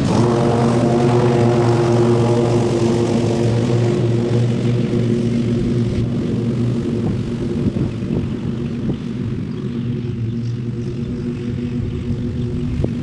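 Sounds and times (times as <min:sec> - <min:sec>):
lawn mower engine cutting grass: 0:00.0 - 0:13.0.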